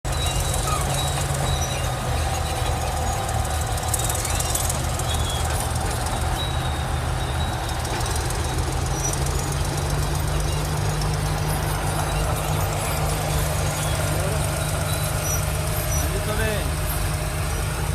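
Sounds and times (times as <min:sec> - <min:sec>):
diesel machinery running: 0:00.0 - 0:17.9
faint high squeaks: 0:00.1 - 0:17.7.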